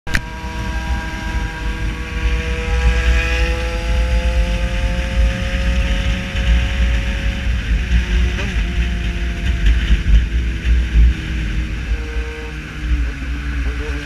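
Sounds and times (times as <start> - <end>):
motorcycle engine rising in pitch: 0.1 - 14.0.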